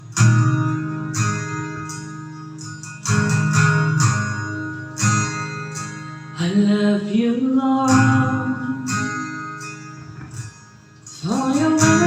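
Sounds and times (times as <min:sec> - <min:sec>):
guitar strumming slow chords: 0:00.0 - 0:12.0.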